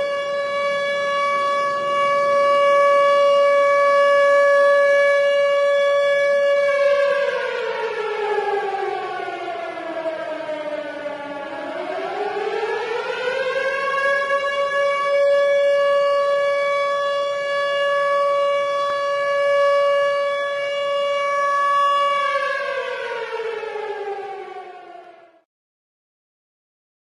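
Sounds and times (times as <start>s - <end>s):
tornado siren wailing: 0.0s - 25.5s.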